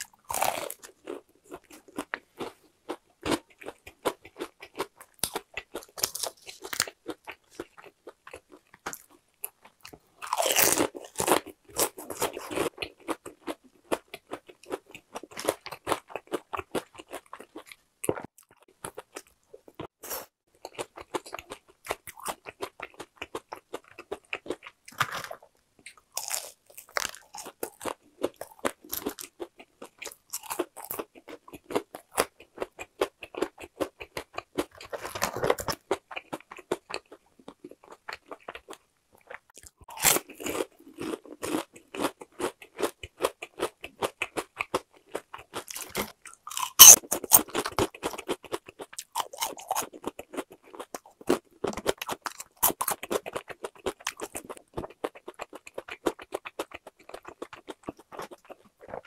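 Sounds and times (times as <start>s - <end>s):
crunching and chewing fried chicken: 0.0s - 59.0s.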